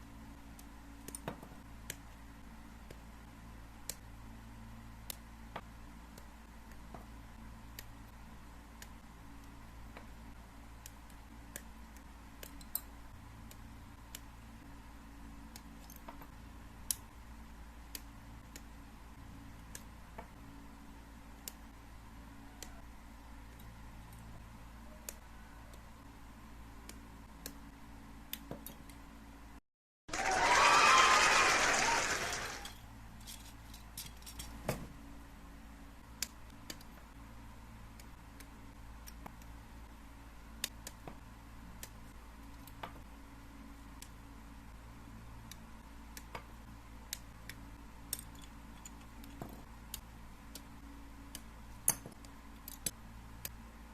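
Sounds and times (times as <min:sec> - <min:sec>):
low steady hum: 0:00.0 - 0:29.6, 0:30.3 - 0:53.9.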